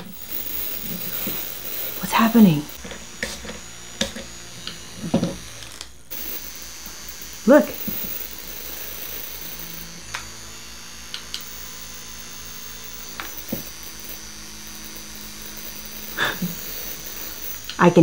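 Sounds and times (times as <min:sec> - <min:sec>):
electric arc lighter buzzing: 0:00.0 - 0:18.0.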